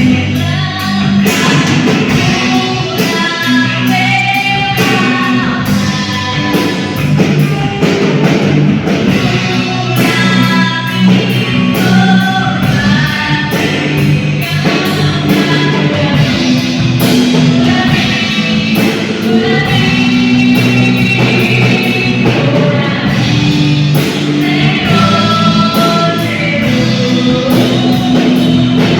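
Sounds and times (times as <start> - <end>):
drum kit: 0.0 - 28.9
guitar: 0.0 - 28.9
person singing: 0.0 - 28.9.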